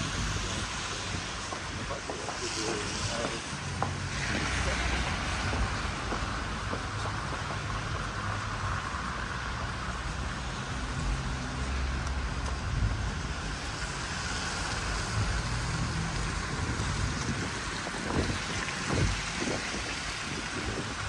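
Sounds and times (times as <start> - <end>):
low traffic rumble: 0.0 - 21.0
passing vehicles hiss: 0.0 - 21.0.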